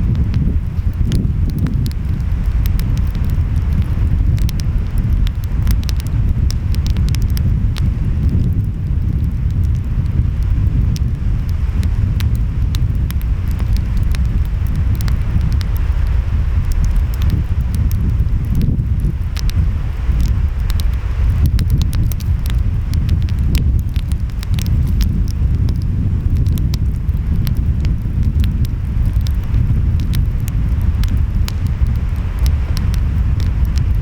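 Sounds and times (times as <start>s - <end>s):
wind: 0.0s - 34.0s
wood fire crackling and popping: 0.0s - 34.0s.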